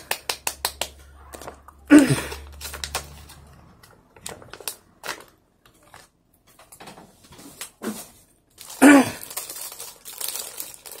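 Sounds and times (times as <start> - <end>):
light plastic crinkles: 1.1 - 11.0.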